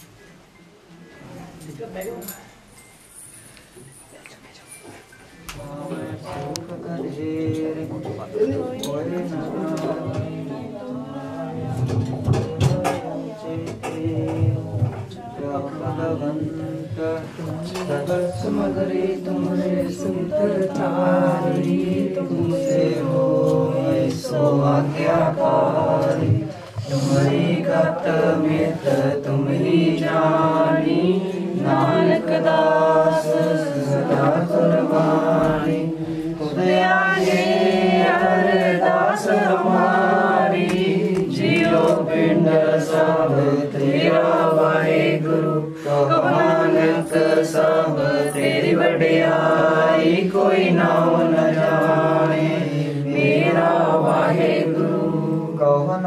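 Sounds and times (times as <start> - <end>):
women singing chant-like melody: 5.6 - 55.6.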